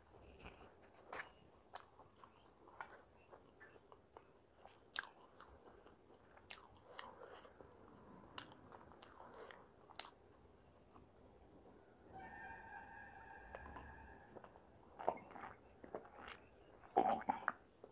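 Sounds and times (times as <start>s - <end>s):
faint chewing with mouth clicks: 0.0s - 11.8s, 13.5s - 17.9s.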